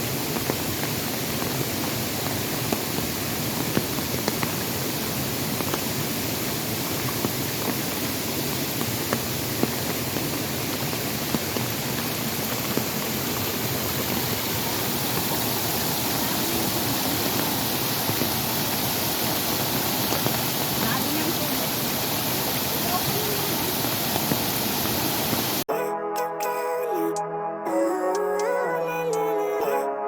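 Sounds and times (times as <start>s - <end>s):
rush of falling water: 0.0s - 25.7s.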